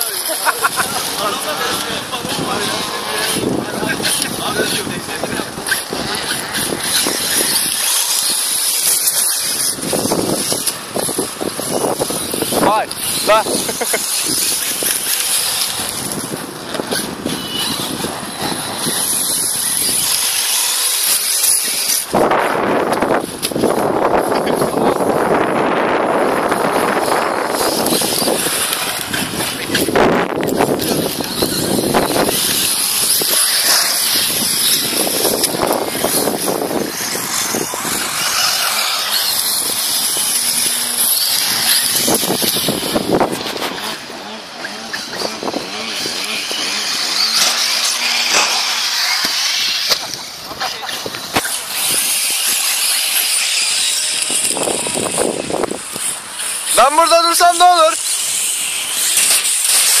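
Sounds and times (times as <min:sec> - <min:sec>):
electric motors whining: 0:00.0 - 1:00.0
rc cars running on grass: 0:00.0 - 1:00.0
wind on microphone: 0:00.6 - 0:56.8.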